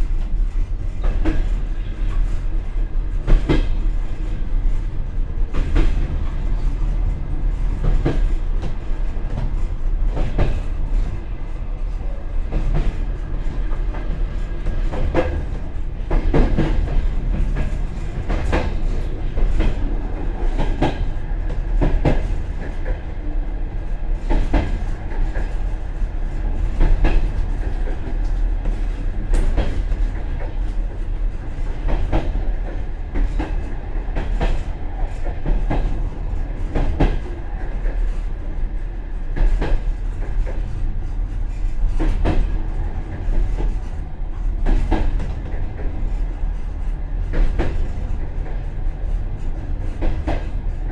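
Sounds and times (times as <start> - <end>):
low train rumble: 0.0 - 50.9
train wheels clicking over rail joints: 0.2 - 2.4, 3.0 - 23.1, 24.1 - 38.5, 39.2 - 50.9.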